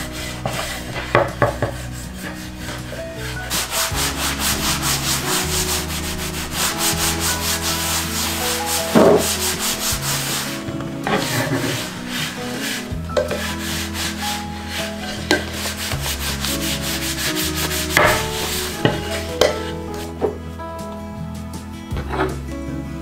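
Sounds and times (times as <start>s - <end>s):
cloth rubbing wax into wood: 0.0s - 20.4s.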